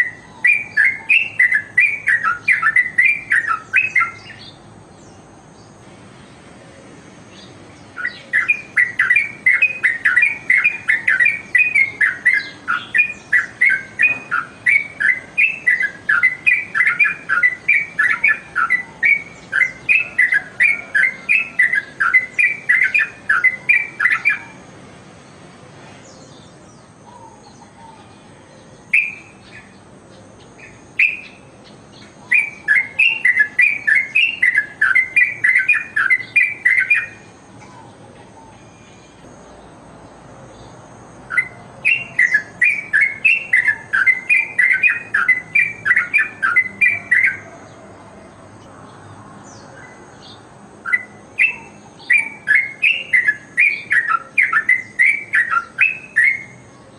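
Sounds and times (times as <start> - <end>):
bird chattering song: 0.0 - 24.7, 25.3 - 39.7, 40.6 - 48.7, 49.4 - 56.9.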